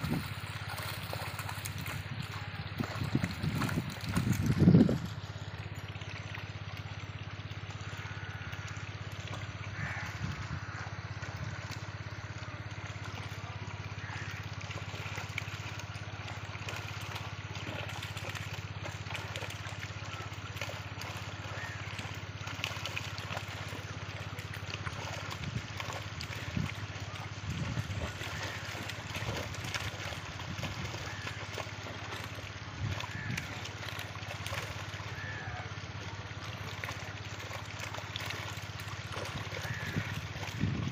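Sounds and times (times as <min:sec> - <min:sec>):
steady low mechanical hum: 0:00.0 - 0:40.9
water trickling and splashing: 0:00.0 - 0:40.9.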